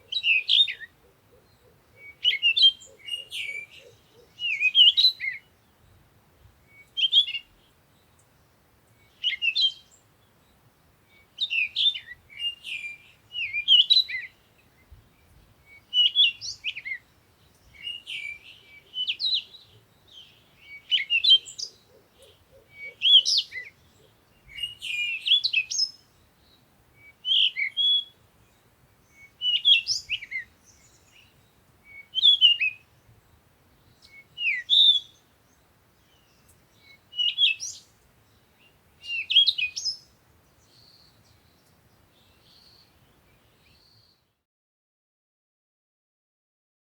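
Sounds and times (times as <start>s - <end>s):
songbird chirping: 0.0s - 44.4s.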